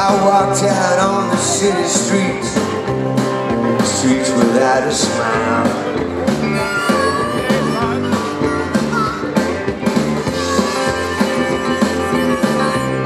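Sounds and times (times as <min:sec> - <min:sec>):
bass: 0:00.0 - 0:13.0
drums keeping a steady beat: 0:00.0 - 0:13.0
strummed acoustic guitar: 0:00.0 - 0:13.0.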